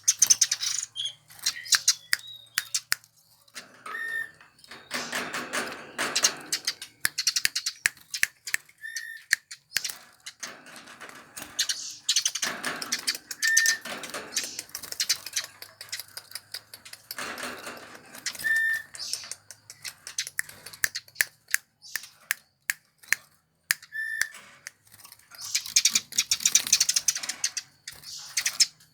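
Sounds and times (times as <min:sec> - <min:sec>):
sparrows chirping and chattering: 0:00.0 - 0:28.9.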